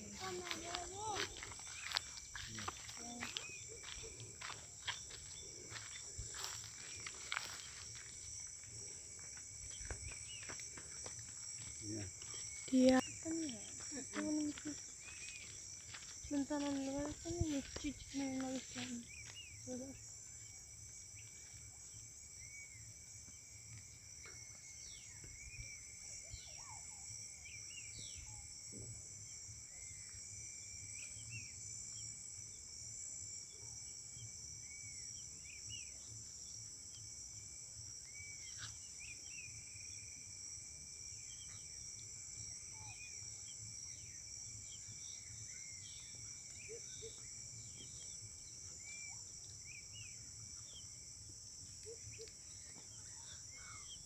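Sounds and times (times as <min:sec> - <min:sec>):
insect chorus buzzing: 0:00.0 - 0:54.0.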